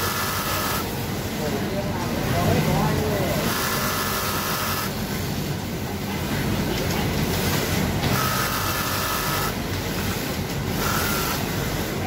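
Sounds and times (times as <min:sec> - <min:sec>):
factory machines humming: 0:00.0 - 0:12.0
sewing machine whine and rattle: 0:00.0 - 0:12.0.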